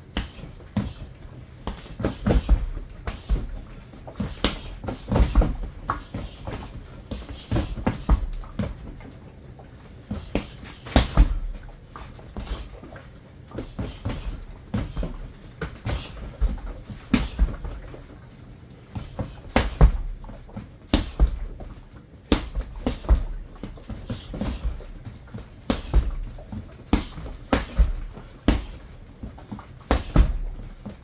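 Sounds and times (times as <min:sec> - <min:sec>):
punches thudding on dummy: 0:00.2 - 0:08.9, 0:10.1 - 0:11.7, 0:13.6 - 0:17.9, 0:18.9 - 0:31.0.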